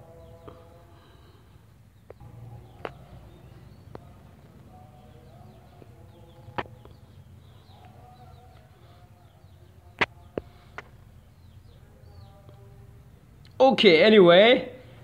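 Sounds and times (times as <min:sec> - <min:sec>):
low steady hum: 0:00.0 - 0:13.6
small birds chirping: 0:00.0 - 0:15.0.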